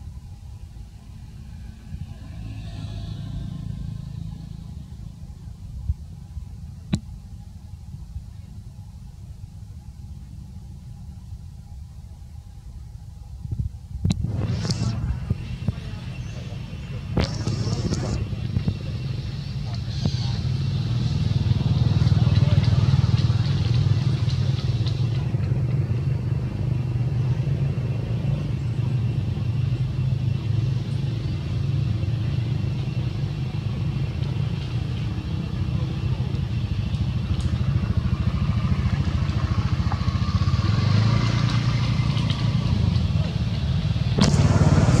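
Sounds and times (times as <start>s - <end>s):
motor engine droning: 0.0s - 9.3s, 14.0s - 45.0s.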